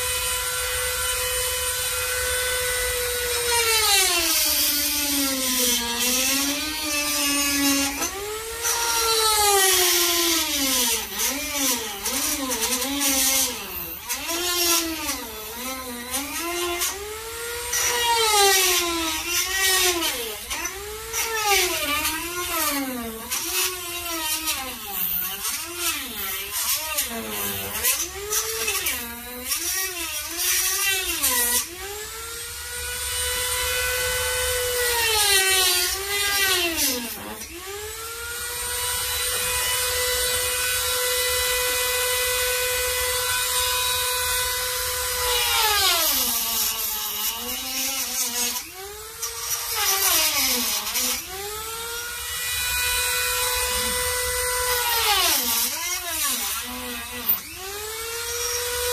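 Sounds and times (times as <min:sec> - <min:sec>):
power tool whining: 0:00.0 - 0:58.9.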